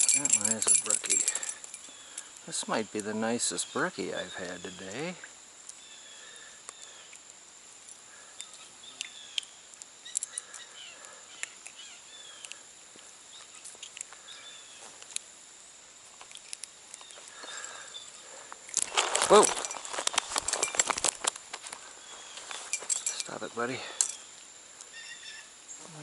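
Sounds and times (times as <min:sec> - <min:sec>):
high insect drone: 0:00.0 - 0:26.0
faint bird chirps: 0:00.4 - 0:07.3, 0:08.1 - 0:15.0, 0:16.9 - 0:20.8, 0:21.8 - 0:26.0.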